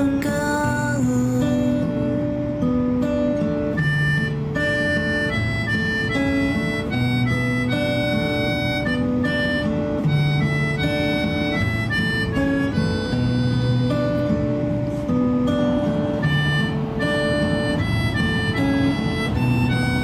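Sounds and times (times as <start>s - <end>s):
instrumental pop music with guitar: 0.0s - 20.0s.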